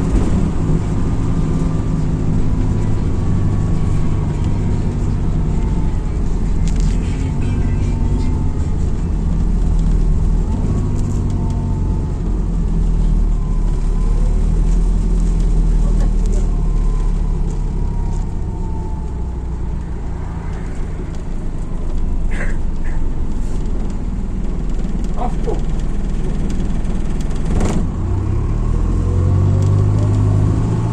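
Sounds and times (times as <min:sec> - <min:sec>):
bus engine rumble: 0:00.0 - 0:30.9.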